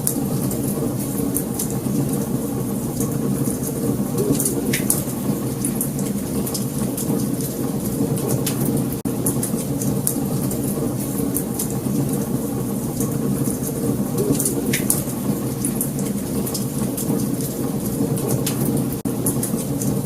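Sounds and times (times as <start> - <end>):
wood crackling and popping: 0.0 - 20.0.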